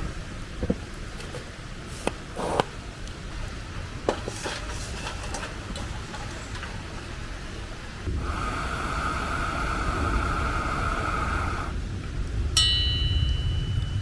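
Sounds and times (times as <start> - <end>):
campfire crackling: 0.0 - 12.6.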